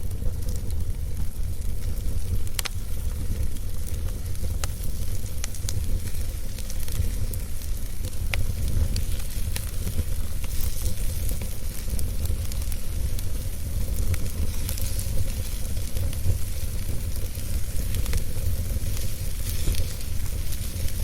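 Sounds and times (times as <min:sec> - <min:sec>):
burning logs crackling and popping: 0:00.0 - 0:21.0
low rumble of flames: 0:00.0 - 0:21.0.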